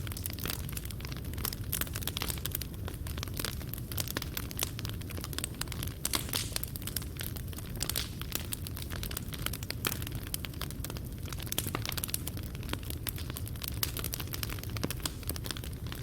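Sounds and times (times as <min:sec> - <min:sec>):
fire crackling: 0:00.0 - 0:16.0.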